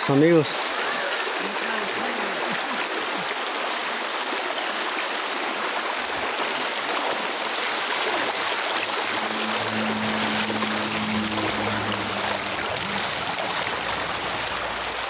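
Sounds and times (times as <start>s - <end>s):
river rushing over rocks: 0.1s - 15.0s.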